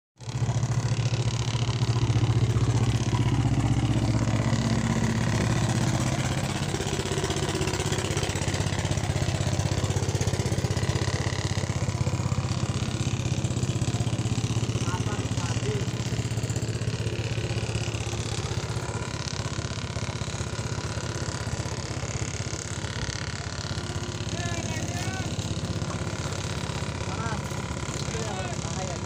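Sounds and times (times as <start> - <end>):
boat engine chugging: 0.2 - 29.0.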